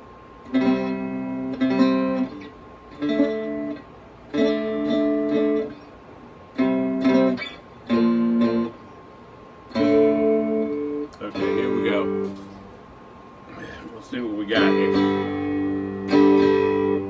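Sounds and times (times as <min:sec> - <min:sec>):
cigar box guitar strummed: 0:00.4 - 0:08.9, 0:09.7 - 0:12.8, 0:13.5 - 0:17.0.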